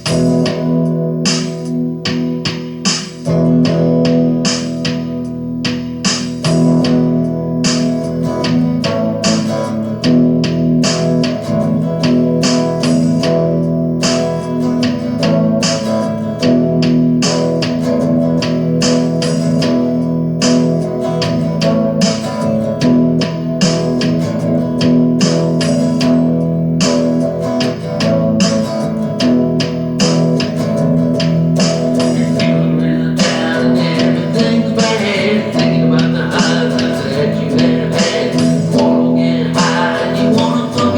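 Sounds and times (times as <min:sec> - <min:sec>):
guitar-led music: 0:00.0 - 0:40.9.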